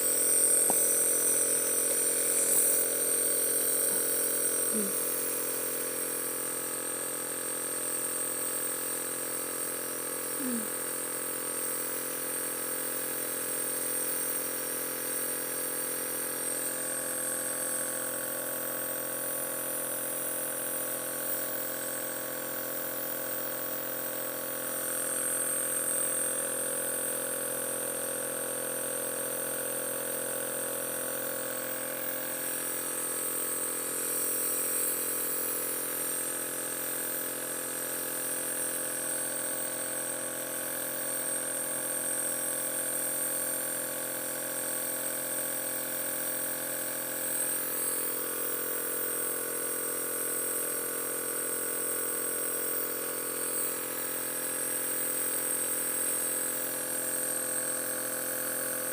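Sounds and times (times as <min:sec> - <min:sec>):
nebulizer motor hum with hiss: 0:00.0 - 0:58.9.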